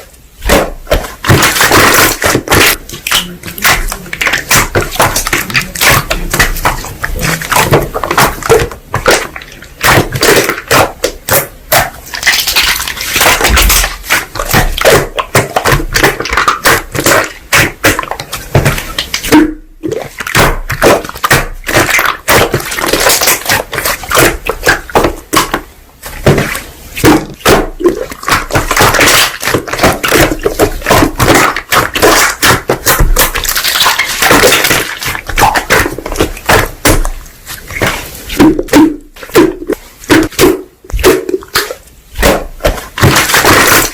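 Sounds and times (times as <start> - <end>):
slime crackling and popping: 0.0 - 43.9.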